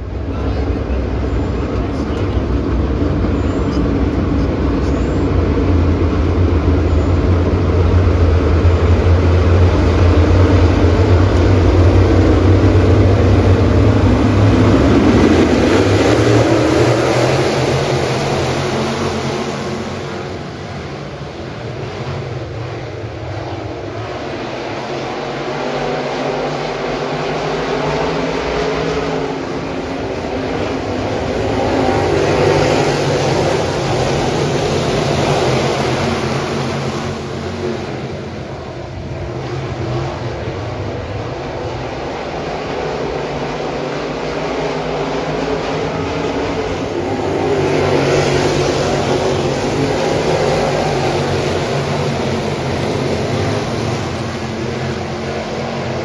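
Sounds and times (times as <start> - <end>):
race car engines roaring: 0.0 - 56.0.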